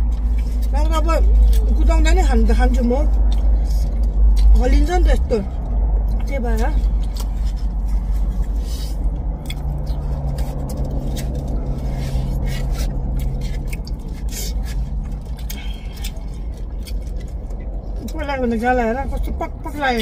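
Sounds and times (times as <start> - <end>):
low car cabin rumble: 0.0 - 20.0
low hum: 0.0 - 20.0
noodles chewed and slurped: 0.0 - 20.0.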